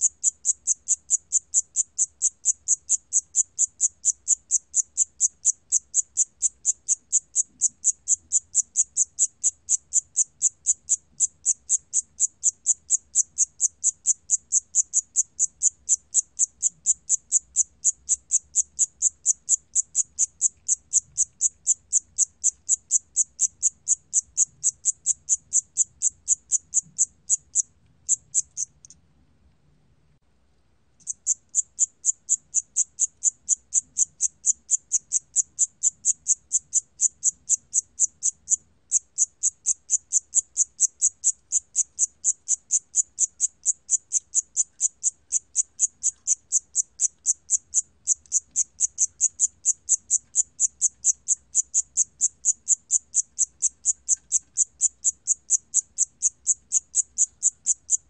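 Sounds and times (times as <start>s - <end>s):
cricket chirping: 0.0s - 29.0s, 31.0s - 58.0s.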